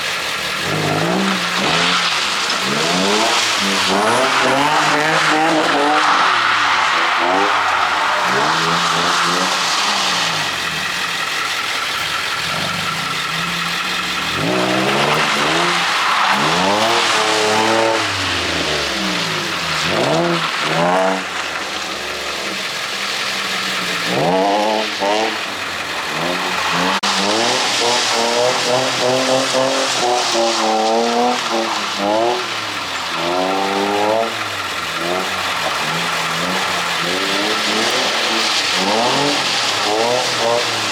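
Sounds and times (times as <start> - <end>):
car engine revving: 0.0 - 40.9
tyres hissing on wet track: 0.0 - 40.9.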